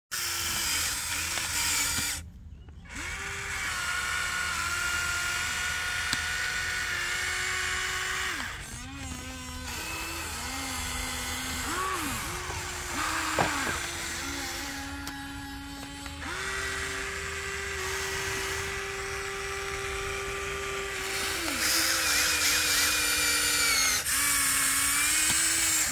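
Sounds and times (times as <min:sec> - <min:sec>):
small electric motors whining: 0:00.1 - 0:25.9.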